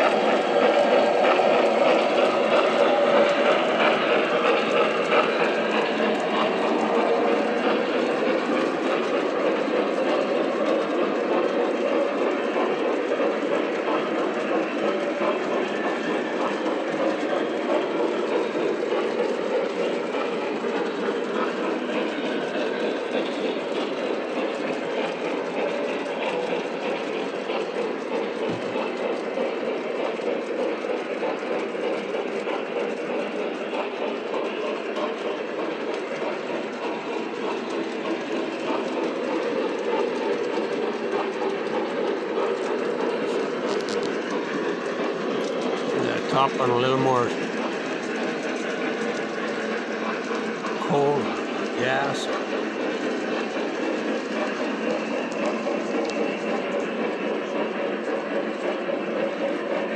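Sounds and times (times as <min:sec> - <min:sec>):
model train wheels and motors rumbling: 0:00.0 - 0:59.9.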